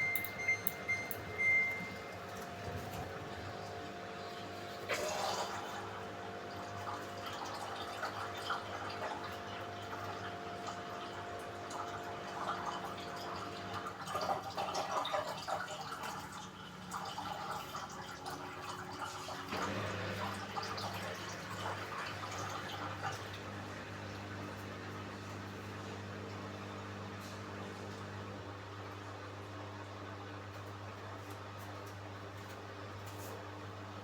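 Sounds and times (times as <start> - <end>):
washing machine hum: 0.0 - 34.0.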